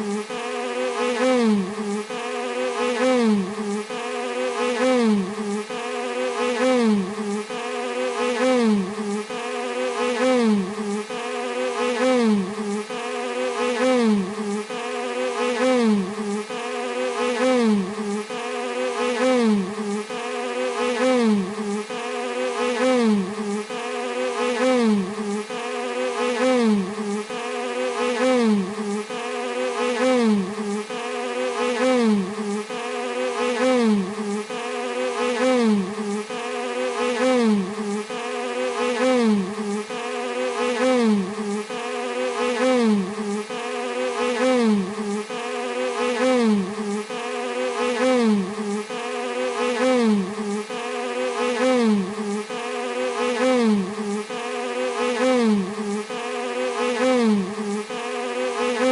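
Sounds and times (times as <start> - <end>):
bee buzzing: 0.0 - 58.9.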